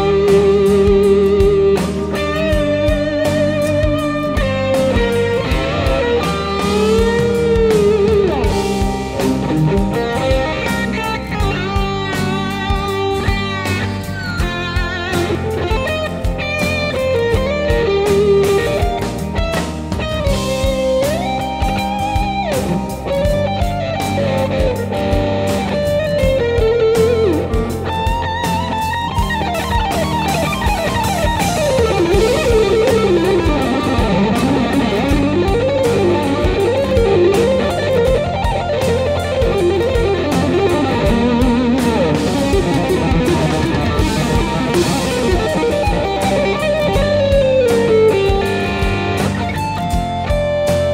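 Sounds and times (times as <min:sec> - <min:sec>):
electric guitar solo: 0:00.0 - 0:50.9
rock backing track: 0:00.0 - 0:50.9.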